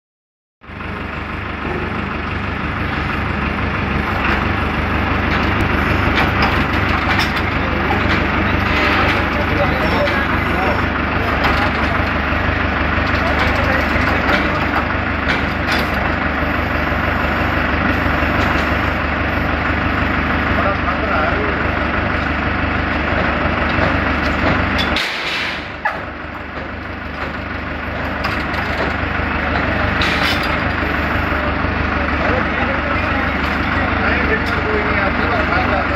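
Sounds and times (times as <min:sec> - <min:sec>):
tractor engine running: 0:00.6 - 0:35.9.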